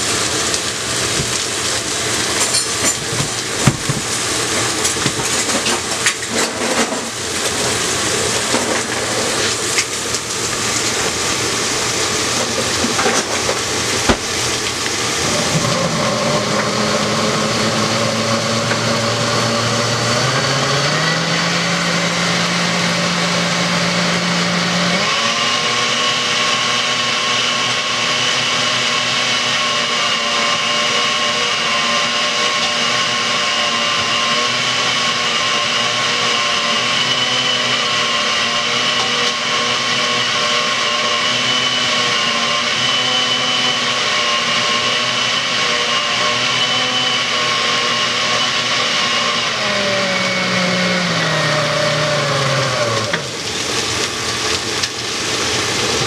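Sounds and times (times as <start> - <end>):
blender motor whine: 0.0 - 56.0.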